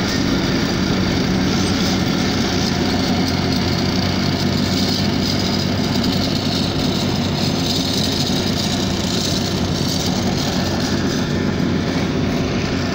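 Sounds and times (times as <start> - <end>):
construction machine engine idling: 0.0 - 12.9.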